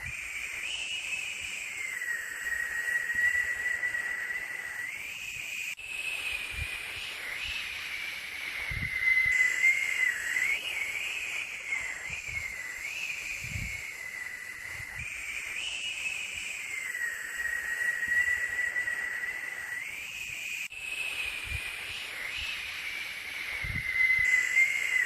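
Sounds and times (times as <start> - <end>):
steady white noise hiss: 0.0 - 25.0
wavering whistling tone: 0.0 - 25.0.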